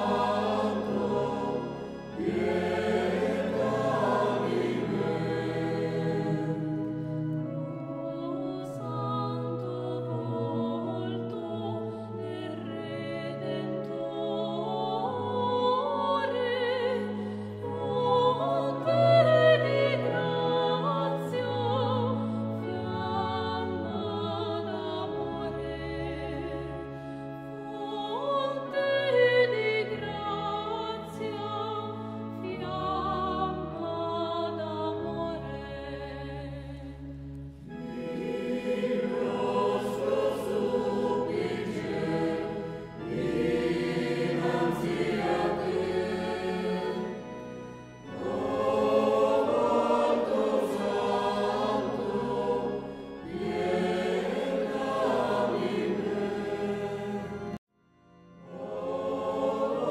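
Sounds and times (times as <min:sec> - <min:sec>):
choir singing sustained notes: 0:00.0 - 0:59.9.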